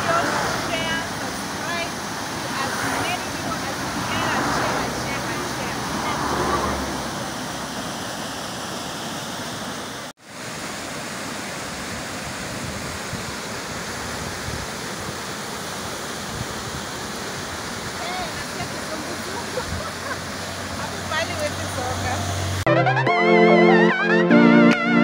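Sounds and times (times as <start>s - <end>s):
river rushing over rocks: 0.0s - 22.6s.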